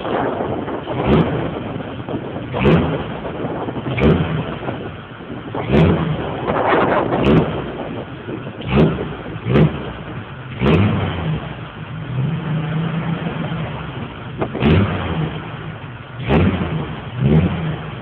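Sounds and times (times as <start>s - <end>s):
engine idling and revving: 0.0s - 18.0s.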